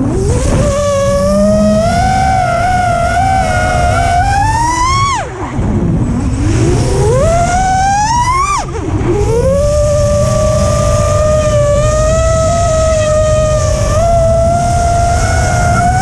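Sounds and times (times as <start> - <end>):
quadcopter motors whining: 0.0 - 16.0
wind noise rumble: 0.0 - 16.0.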